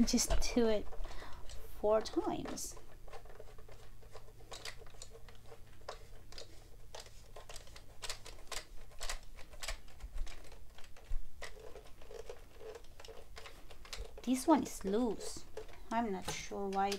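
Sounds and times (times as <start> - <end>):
plastic clicks from screwing: 0.1 - 14.3.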